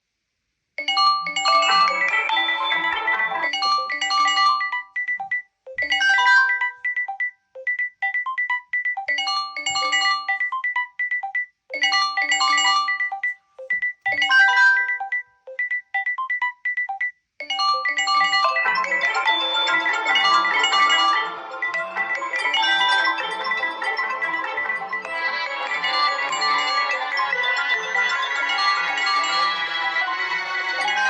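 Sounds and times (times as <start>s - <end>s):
phone ringtone melody: 0.8s - 31.0s.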